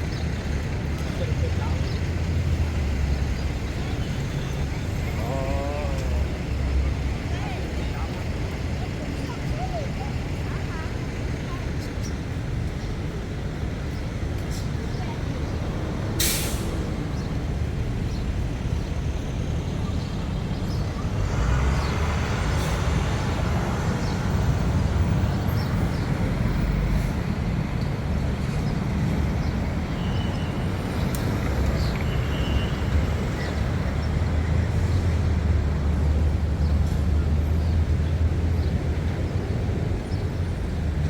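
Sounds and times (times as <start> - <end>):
traffic rumble: 0.0 - 41.0.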